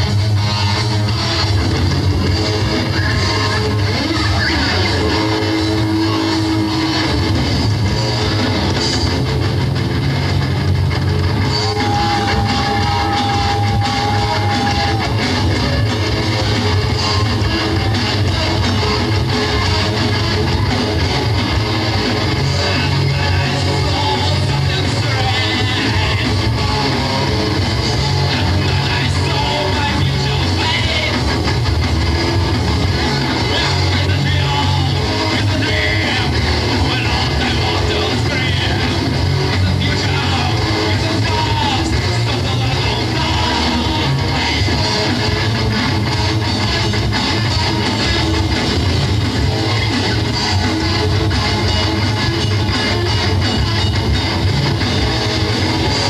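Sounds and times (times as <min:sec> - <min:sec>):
live rock band playing loud: 0:00.0 - 0:56.0.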